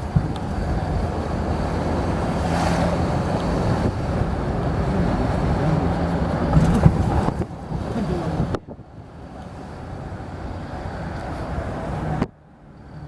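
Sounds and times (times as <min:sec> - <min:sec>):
car road noise: 0:00.0 - 0:13.0.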